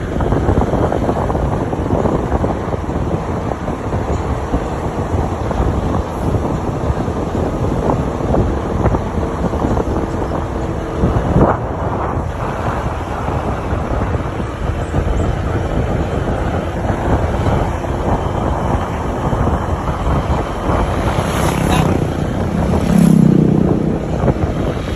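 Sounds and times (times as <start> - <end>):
vehicle running and road noise: 0.0 - 24.9
wind buffeting microphone: 0.0 - 24.9.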